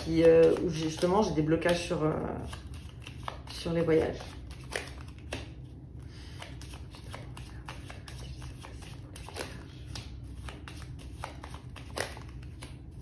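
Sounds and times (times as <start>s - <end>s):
playing cards being shuffled: 0.0s - 13.0s.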